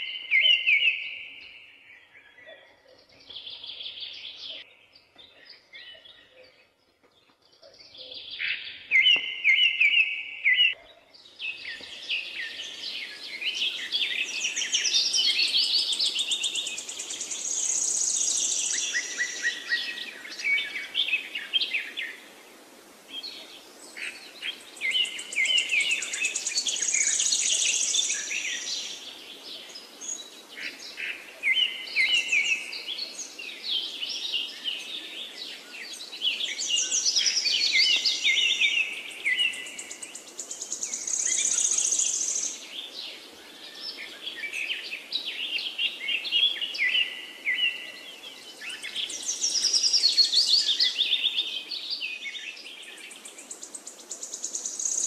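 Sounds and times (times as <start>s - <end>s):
birds singing and chirping: 0.0s - 22.4s, 23.0s - 55.0s.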